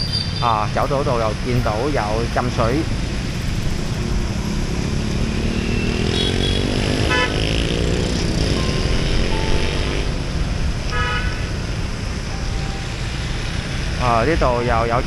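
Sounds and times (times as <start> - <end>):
motorbike engines rumbling: 0.0 - 15.0.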